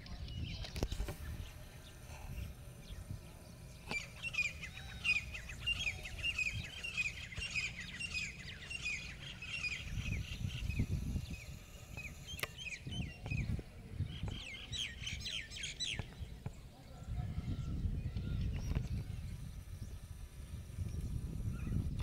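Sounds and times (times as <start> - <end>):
birds chirping: 0.0 - 22.0
wind rumbling on microphone: 0.0 - 22.0.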